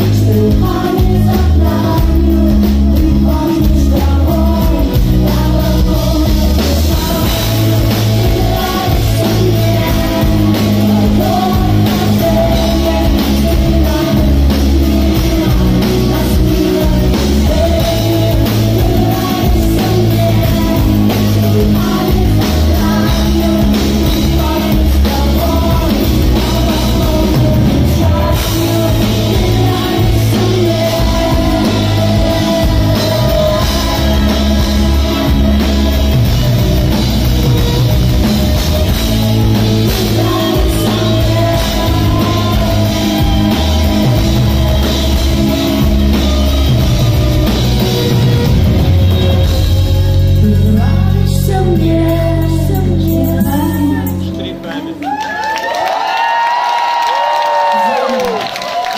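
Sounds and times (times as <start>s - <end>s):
woman singing: 0.0s - 54.4s
backing vocals: 0.0s - 55.0s
live rock band playing: 0.0s - 58.9s.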